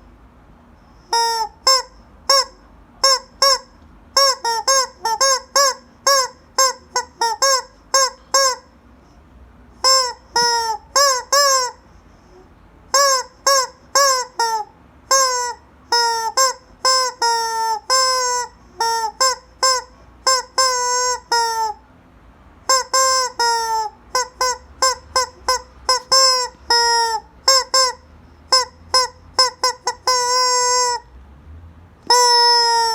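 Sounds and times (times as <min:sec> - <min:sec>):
rubber chicken toy squawking: 0:01.0 - 0:08.8, 0:09.8 - 0:21.8, 0:22.6 - 0:31.1, 0:32.0 - 0:32.9.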